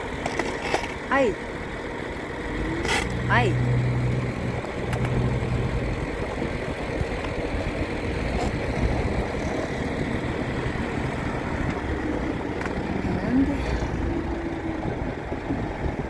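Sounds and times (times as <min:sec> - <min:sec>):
heavy machinery engine rumbling: 0:00.0 - 0:16.0.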